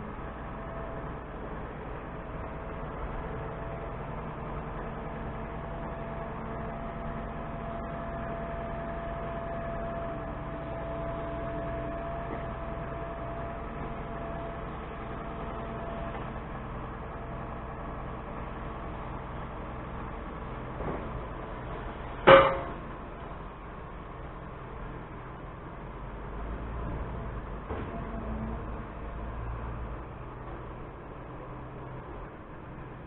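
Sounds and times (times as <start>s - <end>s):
tractor engine droning: 0.0s - 33.0s.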